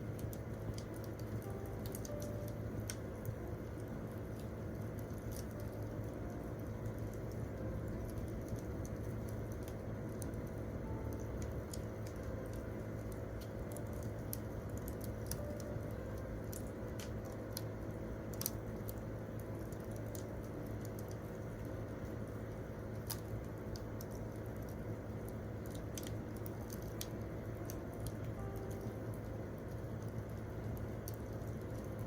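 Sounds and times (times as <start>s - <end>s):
campfire crackling: 0.0s - 32.0s
steady low hum: 0.0s - 32.0s.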